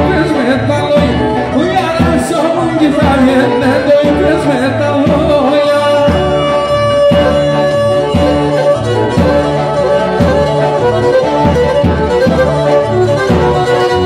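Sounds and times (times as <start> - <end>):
bowed strings and bass: 0.0 - 14.0
low beat: 0.0 - 14.0
person singing: 0.0 - 14.0.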